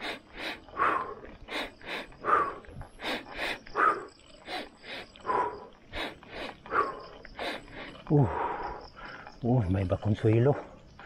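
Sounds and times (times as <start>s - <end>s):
heavy rhythmic breathing: 0.0s - 9.4s.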